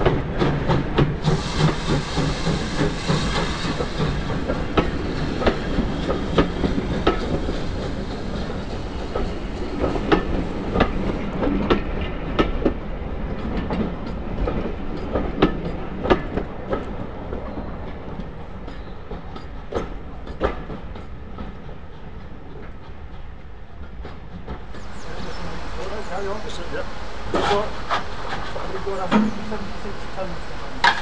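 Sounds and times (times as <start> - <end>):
train rumble: 0.0 - 31.0
train wheels clicking over rail joints: 0.0 - 31.0.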